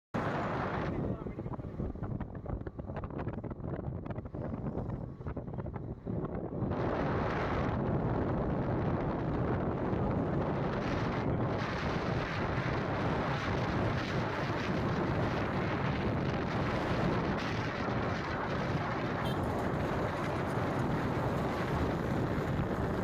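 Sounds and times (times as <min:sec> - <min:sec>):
vehicle road noise: 0:00.2 - 0:23.0
wind rushing over microphone: 0:00.2 - 0:23.0.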